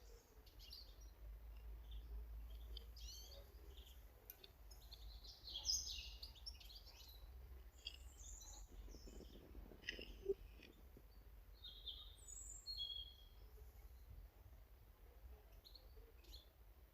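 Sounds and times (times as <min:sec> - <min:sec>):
garden birds chirping: 0:00.0 - 0:16.9.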